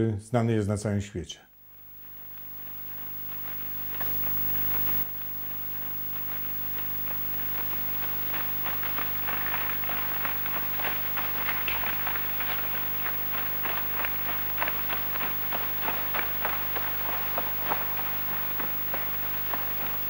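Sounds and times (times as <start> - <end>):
low soundtrack hum: 1.6 - 20.0.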